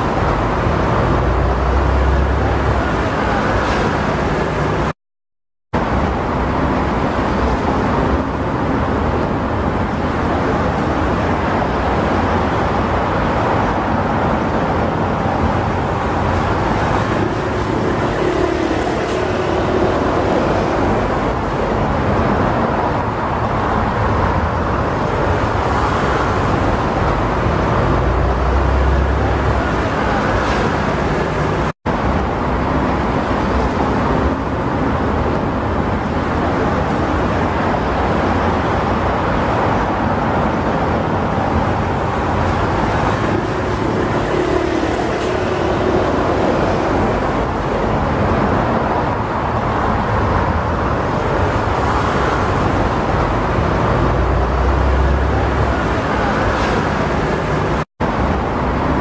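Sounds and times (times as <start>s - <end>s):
ground vehicle traffic: 0.0s - 4.9s, 5.8s - 59.0s
rumble of engines: 0.0s - 4.9s, 5.8s - 59.0s.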